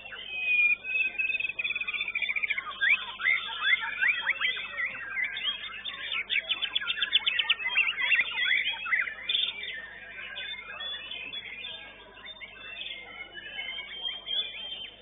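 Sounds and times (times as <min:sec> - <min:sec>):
songbird singing whistles: 0:00.0 - 0:15.0.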